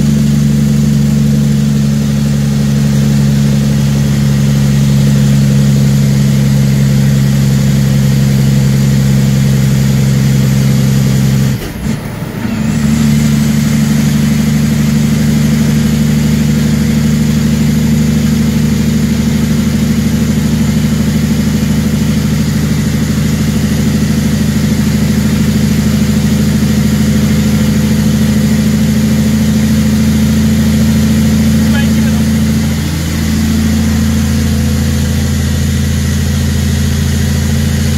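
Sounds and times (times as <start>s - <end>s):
diesel truck engine drone: 0.0s - 37.9s.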